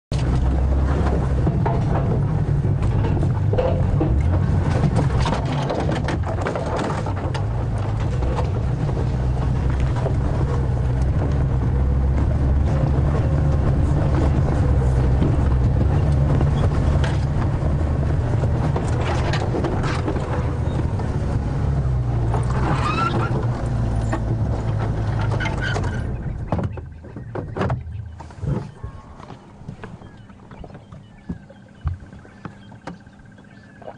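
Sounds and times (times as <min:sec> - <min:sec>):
bodywork rattling and knocking: 0:00.1 - 0:33.8
vehicle engine and road rumble: 0:00.1 - 0:33.9.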